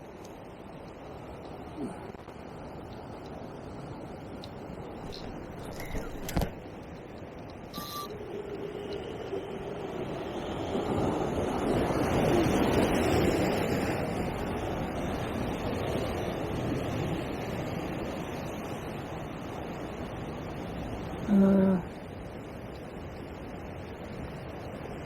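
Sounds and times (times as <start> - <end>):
ocean surf on rocky shore: 0.0 - 25.0.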